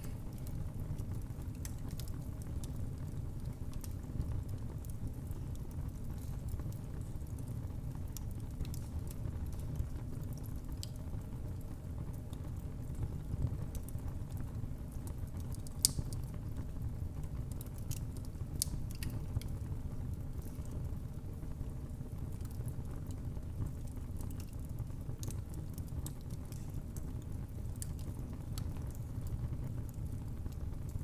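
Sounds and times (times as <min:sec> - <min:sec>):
fire crackles and pops: 0:00.0 - 0:31.0
fire rumbling in fireplace: 0:00.0 - 0:31.0.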